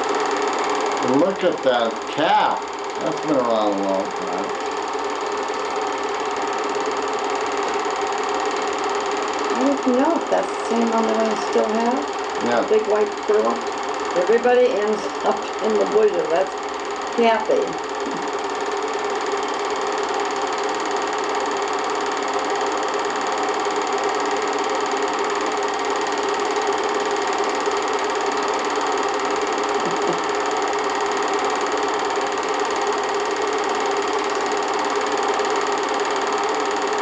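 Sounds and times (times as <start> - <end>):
film projector whirring: 0.0 - 37.0.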